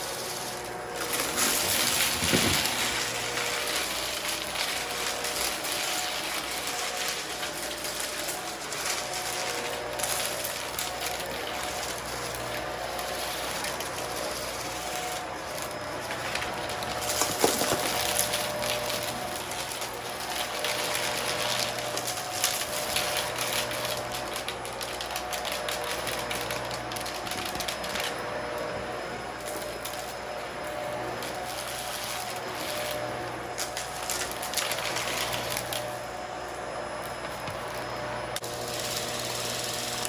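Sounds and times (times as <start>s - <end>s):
debris crackling in vacuum: 0.0s - 40.0s
vacuum cleaner running: 0.0s - 40.0s.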